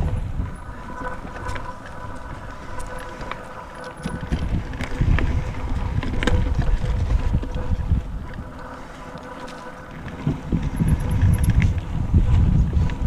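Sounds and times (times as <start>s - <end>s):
bike clicks and rattles: 0.0s - 13.0s
faint steady whine: 0.0s - 13.0s
wind on microphone: 0.0s - 13.0s.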